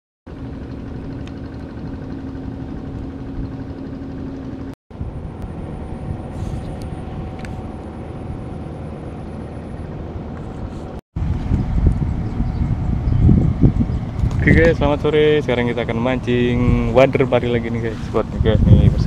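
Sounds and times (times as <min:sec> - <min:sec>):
low outdoor rumble: 0:00.3 - 0:19.0.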